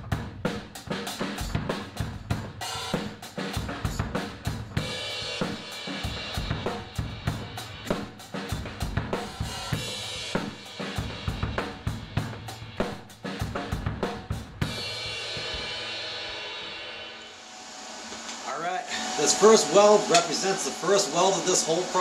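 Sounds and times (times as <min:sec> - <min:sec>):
drum kit playing fast beat: 0:00.0 - 0:22.0.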